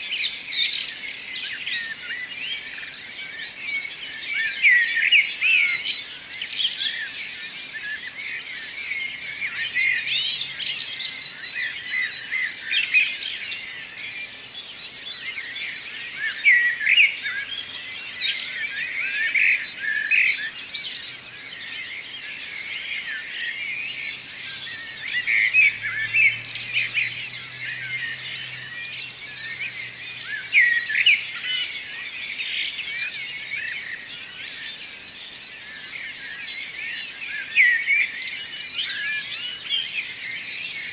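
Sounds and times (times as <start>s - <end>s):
birds singing in chorus: 0.0s - 40.9s.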